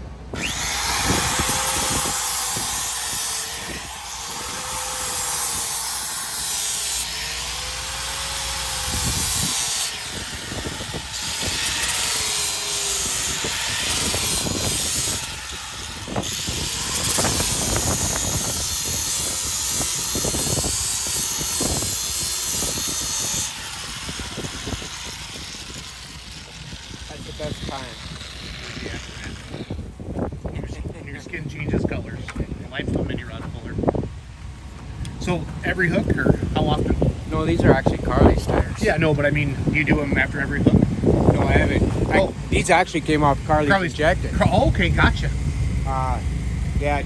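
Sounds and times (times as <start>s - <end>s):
power grinder on rubber: 0.3s - 32.0s, 34.4s - 47.0s.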